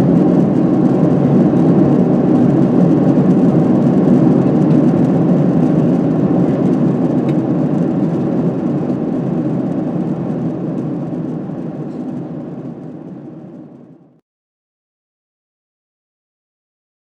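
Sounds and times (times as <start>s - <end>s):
airplane cabin engine rumble: 0.0s - 14.2s.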